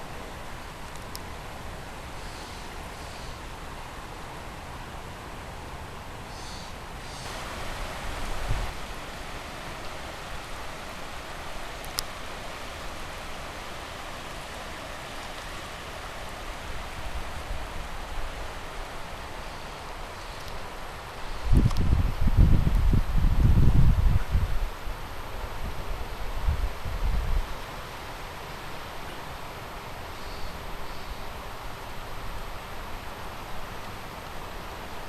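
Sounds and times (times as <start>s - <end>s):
river rushing: 0.0s - 35.0s.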